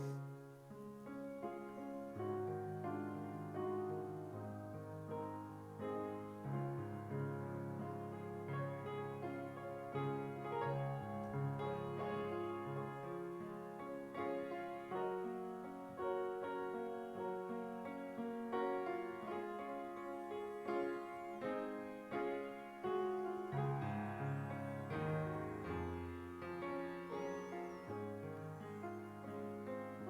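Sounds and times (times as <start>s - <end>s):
piano playing gentle chords: 0.0s - 30.0s.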